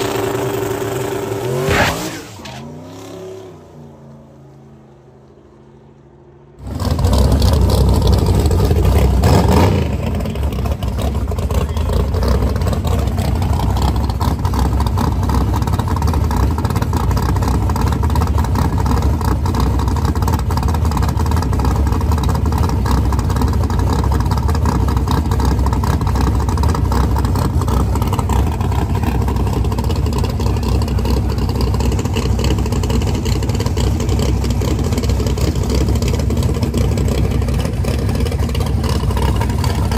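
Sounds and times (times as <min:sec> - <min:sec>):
race car engines rumbling: 0:00.0 - 0:39.9.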